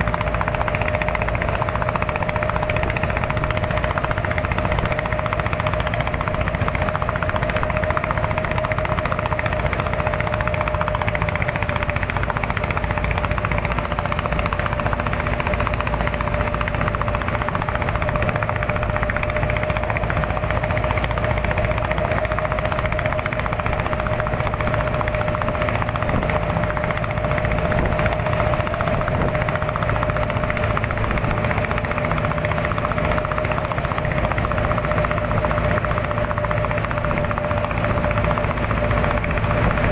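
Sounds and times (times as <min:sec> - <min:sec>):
motor whining over low rumble: 0:00.0 - 0:39.9.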